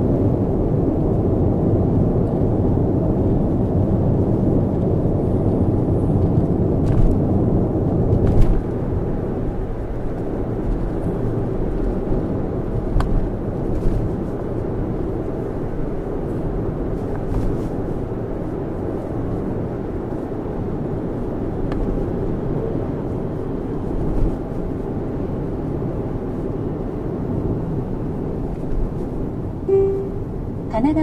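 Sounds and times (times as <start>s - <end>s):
road and tyre noise in car: 0.0s - 31.0s.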